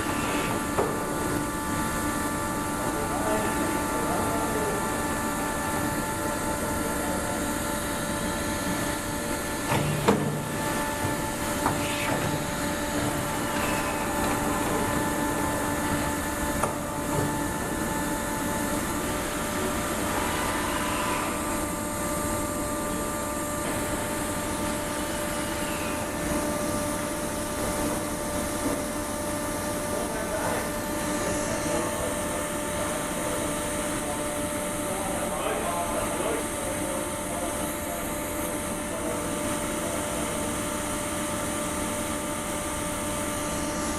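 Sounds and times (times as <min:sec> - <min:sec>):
industrial machinery humming and whining: 0:00.0 - 0:43.9.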